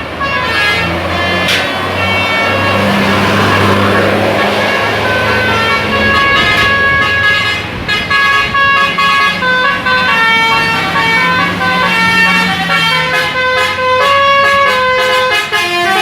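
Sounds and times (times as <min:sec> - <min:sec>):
bus engine running: 0:00.0 - 0:16.0
bus horn playing a melody: 0:00.0 - 0:16.0.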